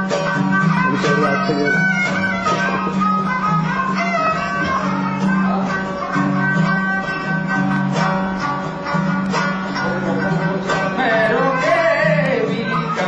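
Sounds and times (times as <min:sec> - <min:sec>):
plucked lute folk music: 0:00.0 - 0:13.0.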